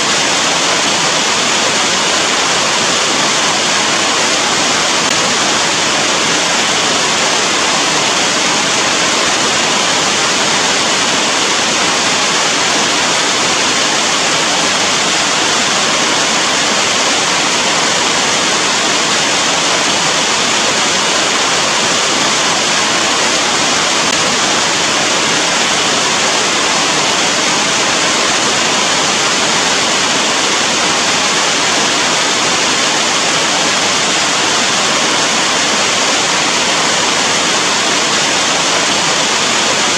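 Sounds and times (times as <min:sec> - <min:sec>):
steady loud rain: 0:00.0 - 0:39.9.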